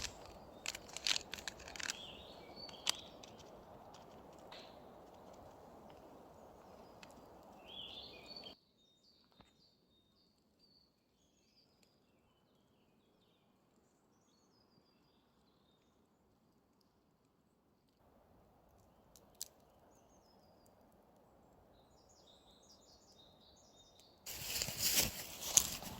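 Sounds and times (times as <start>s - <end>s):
small birds chirping: 0.0s - 18.0s, 18.8s - 25.9s.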